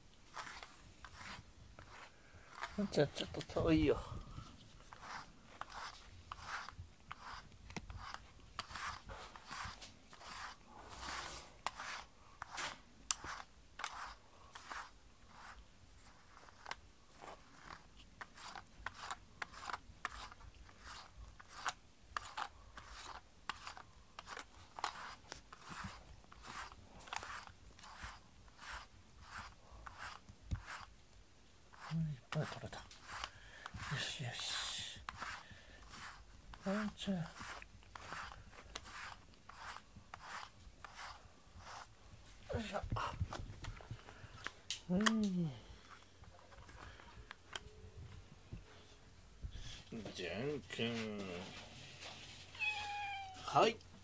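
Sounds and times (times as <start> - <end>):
brush strokes through cat fur: 0.1 - 45.0, 48.1 - 54.0.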